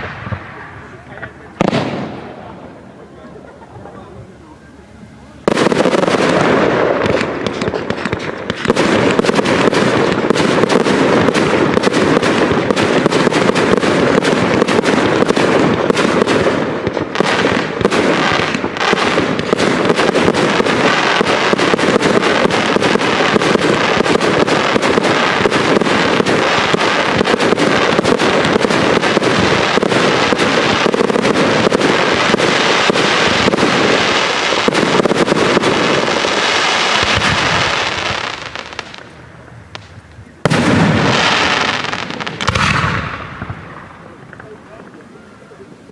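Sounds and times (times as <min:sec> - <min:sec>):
fireworks bangs and crackling: 0:00.0 - 0:04.6, 0:05.2 - 0:45.9.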